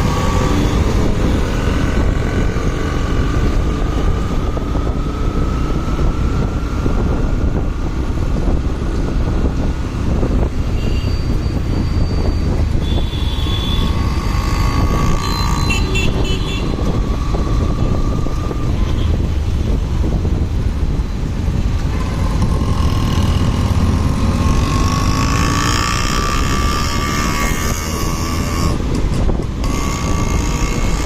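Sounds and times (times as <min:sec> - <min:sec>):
motorcycle engine rumble: 0:00.0 - 0:31.0
road noise: 0:00.0 - 0:31.0.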